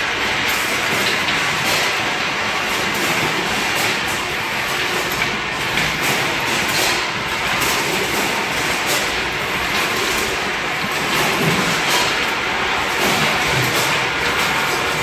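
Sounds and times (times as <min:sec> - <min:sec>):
conveyor machinery din: 0:00.0 - 0:15.0.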